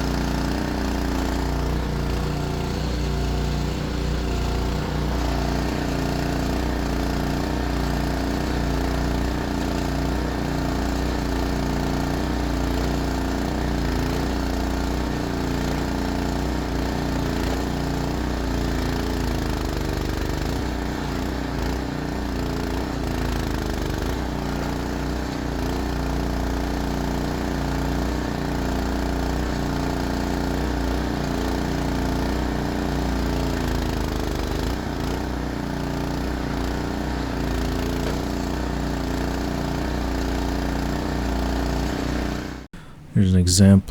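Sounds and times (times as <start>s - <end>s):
small engine running steadily: 0.0s - 42.9s.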